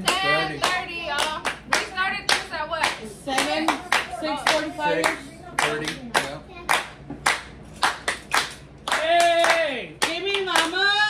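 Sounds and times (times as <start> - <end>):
hand clapping in steady beat: 0.0 - 10.8.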